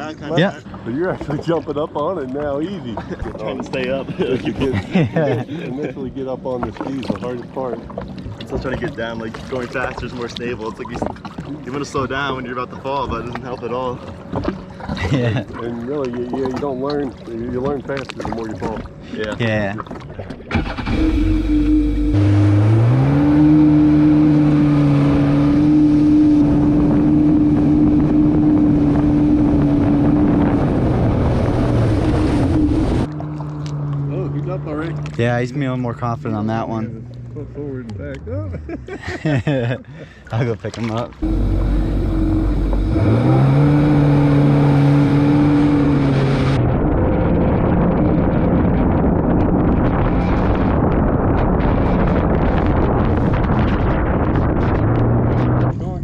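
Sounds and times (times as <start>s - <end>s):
rush of wind and water: 0.0s - 37.7s, 38.5s - 56.0s
jet ski engine running: 0.0s - 56.0s.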